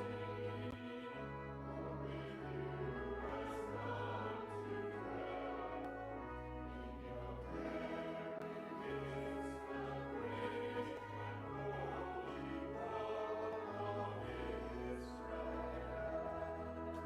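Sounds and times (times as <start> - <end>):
choir singing held chords: 0.0 - 17.0
low organ notes: 0.0 - 17.0.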